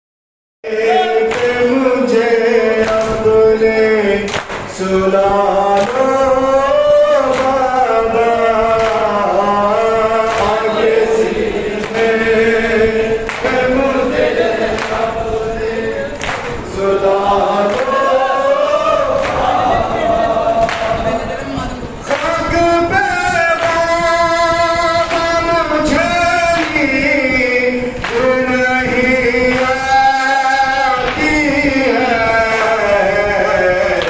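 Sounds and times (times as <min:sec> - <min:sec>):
men chanting a lament: 0:00.6 - 0:34.0.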